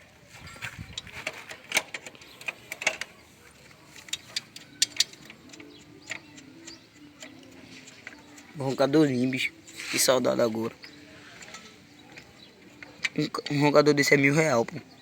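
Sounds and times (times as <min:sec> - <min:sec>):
metallic clicks and knocks of tools: 0:00.9 - 0:14.9.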